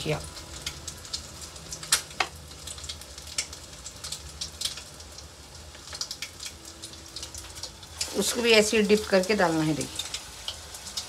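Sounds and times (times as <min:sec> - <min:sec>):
hot oil sizzling and popping: 0:00.0 - 0:11.0.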